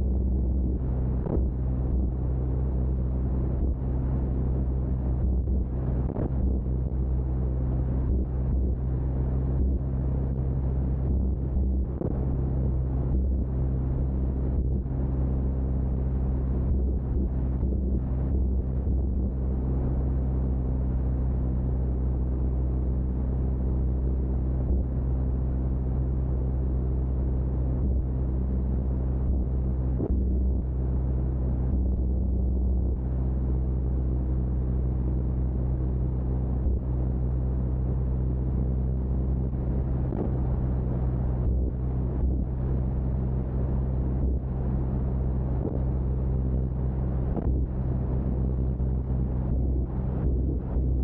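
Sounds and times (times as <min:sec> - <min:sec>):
propeller plane engine droning: 0:00.0 - 0:51.0.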